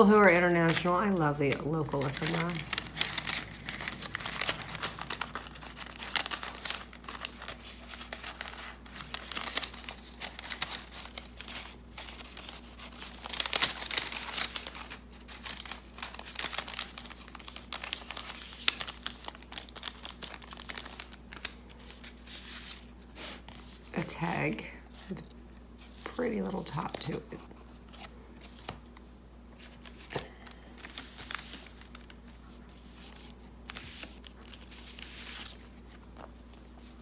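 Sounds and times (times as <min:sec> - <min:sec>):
paper rustling and crinkling: 0:00.0 - 0:23.9, 0:24.9 - 0:28.9, 0:29.6 - 0:37.0.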